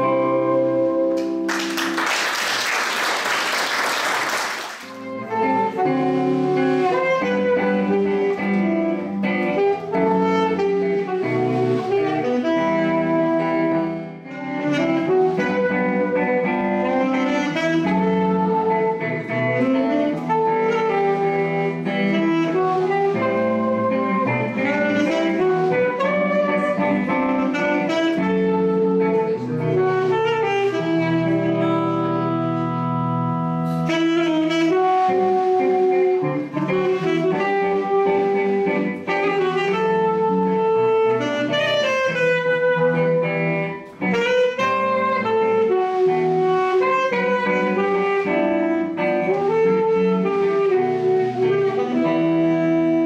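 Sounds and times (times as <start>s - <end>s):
electric guitar accompaniment: 0.0s - 53.0s
saxophone melody: 0.0s - 53.0s.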